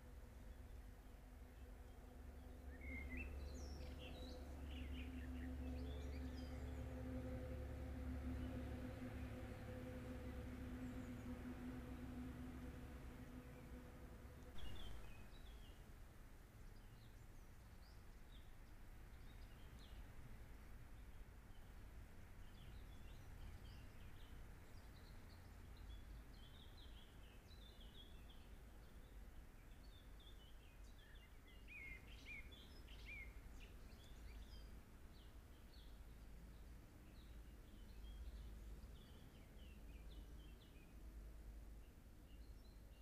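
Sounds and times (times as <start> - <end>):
songbirds chirping: 0.0 - 43.0.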